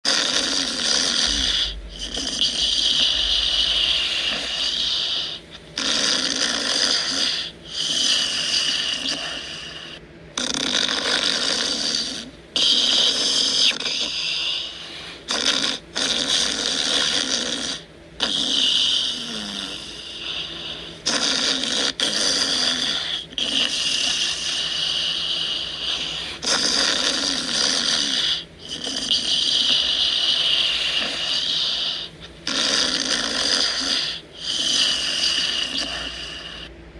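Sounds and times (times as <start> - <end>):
small dog snoring: 0.1 - 36.7.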